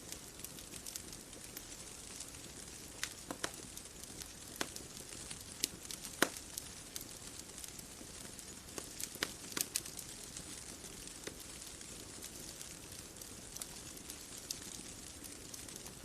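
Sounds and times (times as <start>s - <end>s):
bonfire crackling: 0.0s - 16.0s
sharp pops from fire: 0.0s - 16.0s.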